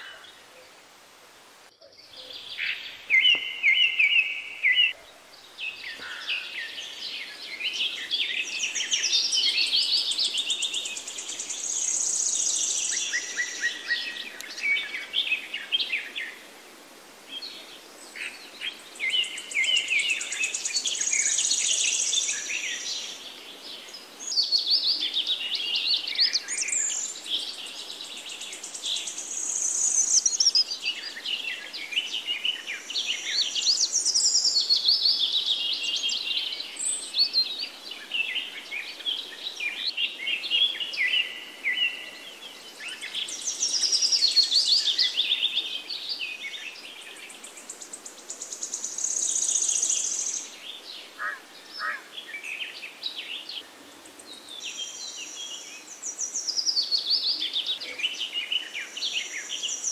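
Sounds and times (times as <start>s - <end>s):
birds chirping and trilling: 1.8s - 16.5s, 17.3s - 59.9s.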